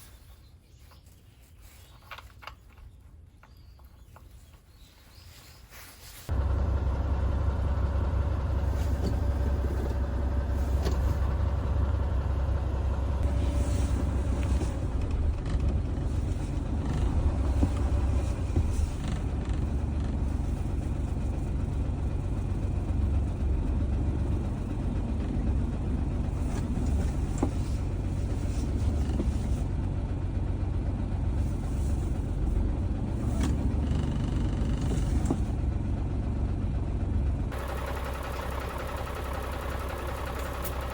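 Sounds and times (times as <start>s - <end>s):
truck engine droning: 6.3s - 40.9s.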